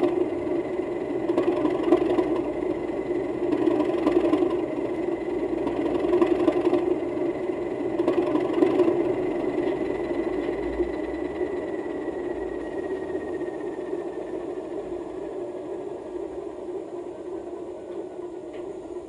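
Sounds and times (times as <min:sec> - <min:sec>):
recorded locomotive engine sound: 0:00.0 - 0:19.0
thin high whine: 0:00.0 - 0:19.0.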